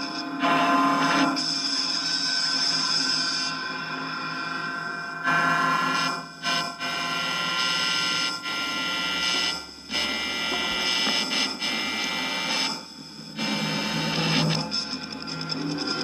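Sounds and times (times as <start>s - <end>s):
electronic drone with steady tones: 0.0s - 16.0s.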